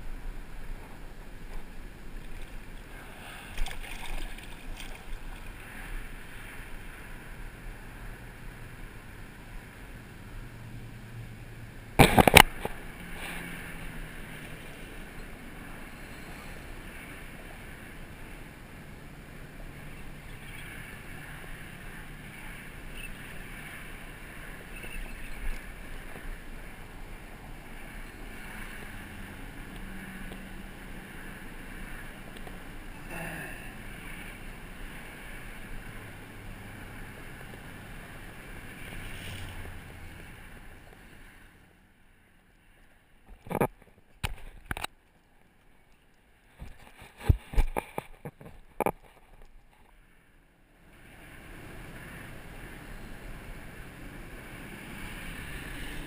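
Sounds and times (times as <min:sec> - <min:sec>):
open air noise: 0:00.0 - 0:56.0
water at the shoreline: 0:00.0 - 0:56.0.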